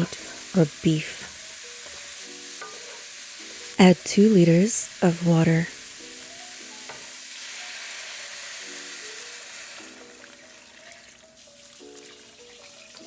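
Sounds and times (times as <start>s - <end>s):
soft background music: 0.0s - 13.0s
water hissing in hot skillet: 0.0s - 13.0s.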